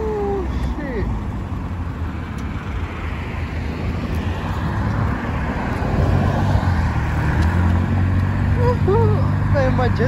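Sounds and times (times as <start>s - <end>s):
cars passing: 0.0s - 10.0s.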